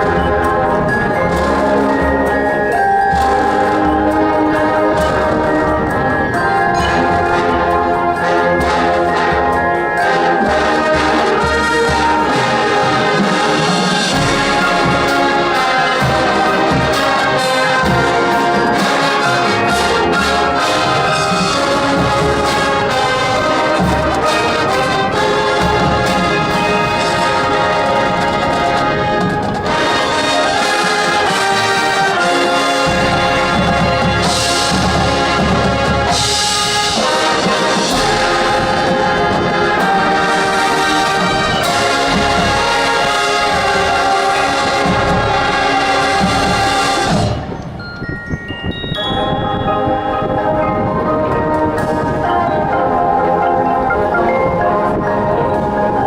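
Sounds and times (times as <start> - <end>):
drums beating: 0.0 - 47.8
marching band brass: 0.0 - 47.9, 49.0 - 56.0.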